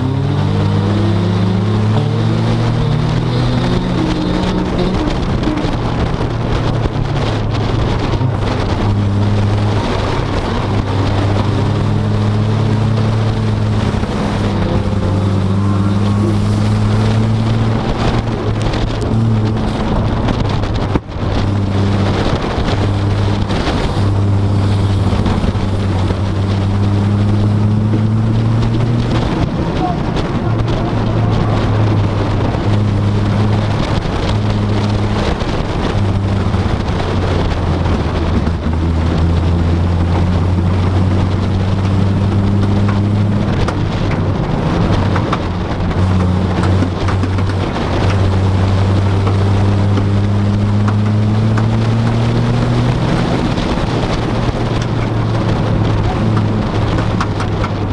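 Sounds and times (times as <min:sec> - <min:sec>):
road noise: 0:00.0 - 0:57.9
vehicle engine drone: 0:00.0 - 0:57.9.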